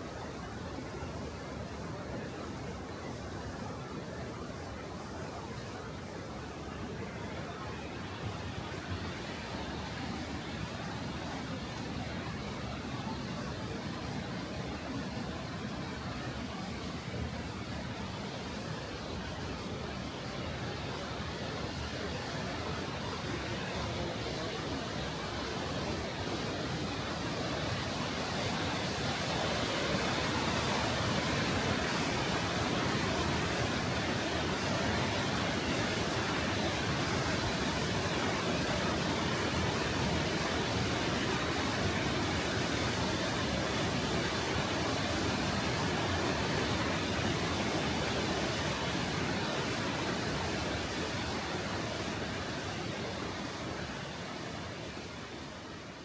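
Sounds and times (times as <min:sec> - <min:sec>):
waterfall rushing: 0:00.1 - 0:56.0.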